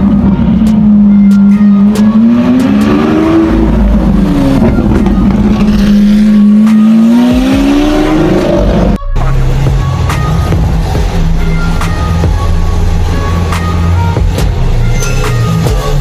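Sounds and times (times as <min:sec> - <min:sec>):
sports car engine revving: 0:00.0 - 0:14.4.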